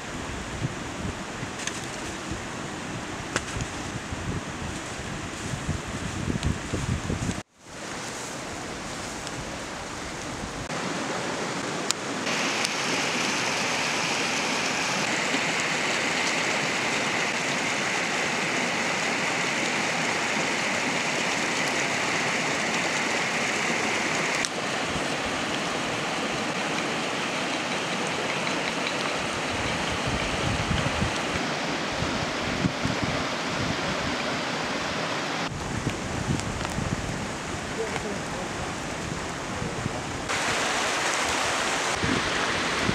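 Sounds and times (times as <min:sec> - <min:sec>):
rushing outdoor background noise: 0:00.0 - 0:42.9.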